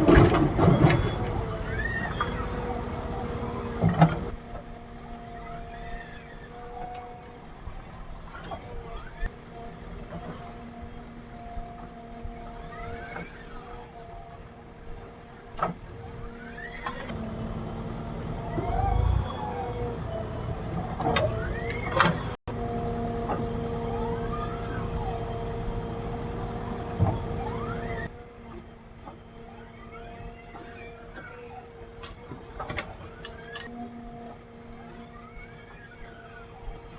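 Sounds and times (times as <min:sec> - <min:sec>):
diesel engine whining: 0:00.0 - 0:36.9.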